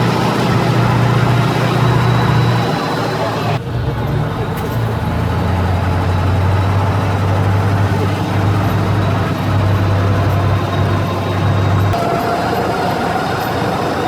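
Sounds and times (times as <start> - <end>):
road noise: 0.0 - 14.0
truck engine humming: 0.0 - 14.0.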